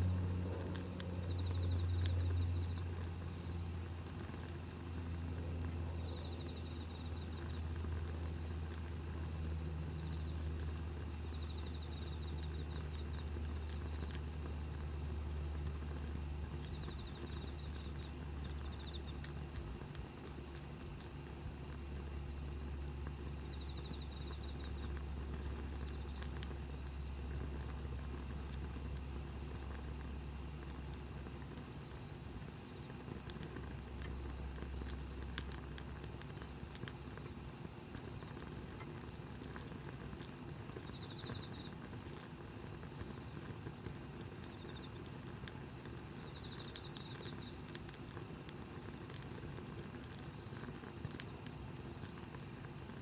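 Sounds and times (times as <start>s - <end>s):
campfire crackling: 0.0s - 53.0s
insects trilling: 0.0s - 53.0s.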